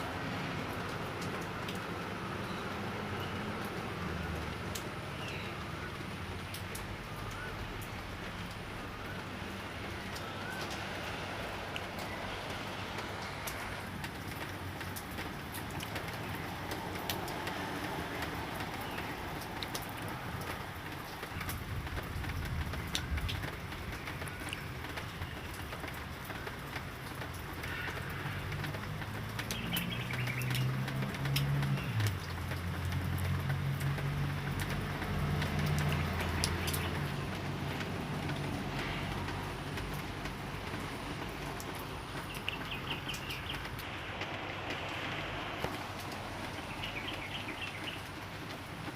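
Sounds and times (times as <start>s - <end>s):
light rain falling: 0.0s - 48.9s
raindrops tapping: 0.0s - 48.9s.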